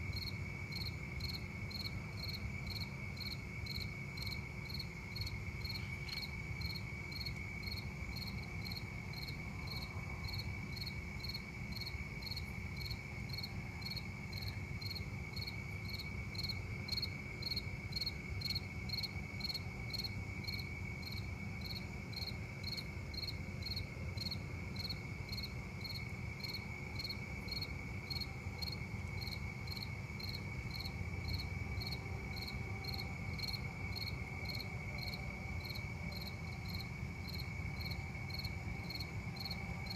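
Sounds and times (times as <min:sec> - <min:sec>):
cricket chirps: 0:00.0 - 0:39.9
cricket trill: 0:00.1 - 0:39.9.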